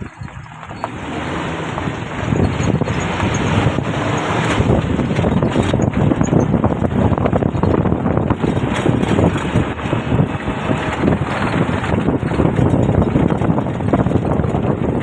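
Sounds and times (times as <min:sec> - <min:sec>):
car engine pulling hard: 0:00.0 - 0:15.0
wind buffeting microphone: 0:00.0 - 0:15.0.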